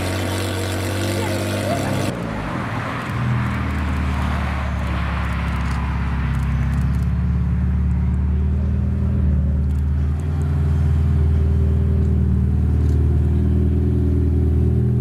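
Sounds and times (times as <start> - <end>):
car engine droning at low revs: 0.0 - 15.0.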